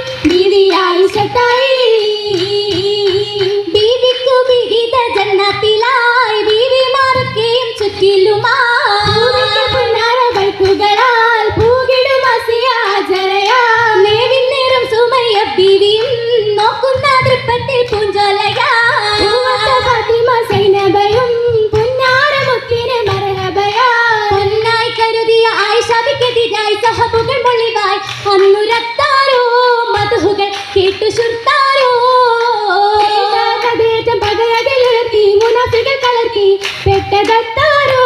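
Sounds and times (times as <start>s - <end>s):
girls singing through pa: 0.0s - 38.0s
sharp hand claps: 0.0s - 38.0s.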